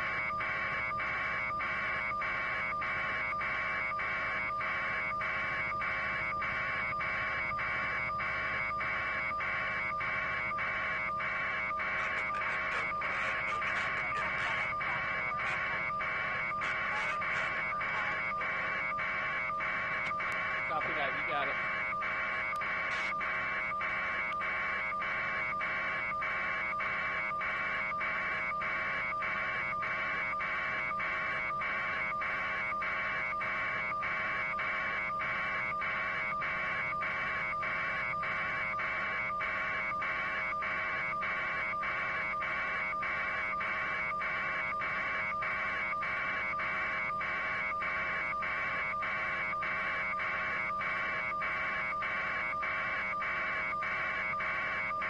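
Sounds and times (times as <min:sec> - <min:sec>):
pulsing electronic buzz: 0:00.0 - 0:55.0.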